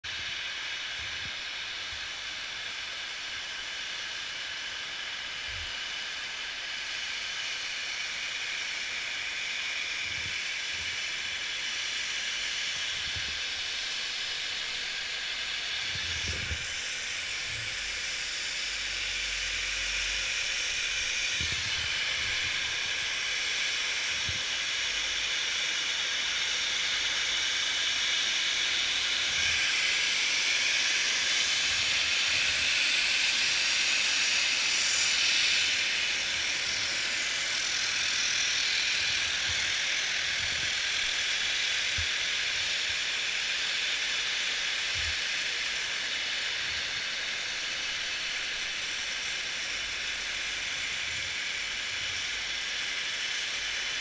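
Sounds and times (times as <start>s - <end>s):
snow guns hissing: 9.7s - 53.6s.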